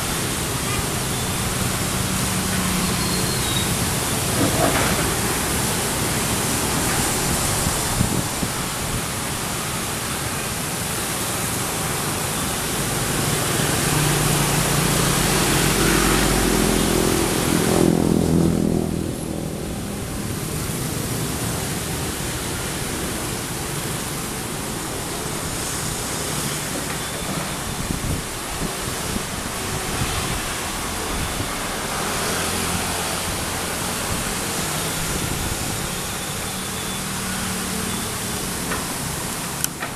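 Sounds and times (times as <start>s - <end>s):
steady loud hiss: 0.0s - 18.0s, 18.9s - 39.9s
excavator diesel engine under load: 0.0s - 39.9s.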